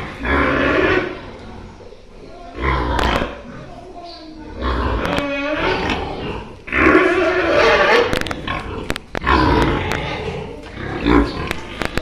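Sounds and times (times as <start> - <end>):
pigs squealing and grunting: 0.0 - 1.8, 2.5 - 3.7, 4.5 - 11.9.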